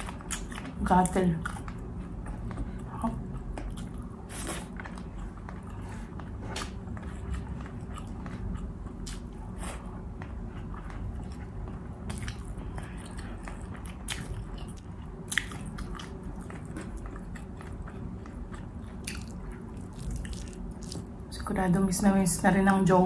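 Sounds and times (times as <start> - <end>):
person chewing with mouth smacks: 0.0 - 21.2
low background hum: 0.0 - 23.0.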